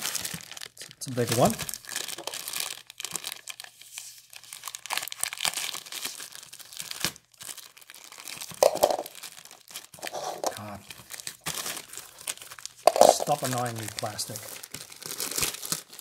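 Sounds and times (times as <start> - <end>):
plastic wrap crinkling and tearing: 0.0 - 16.0.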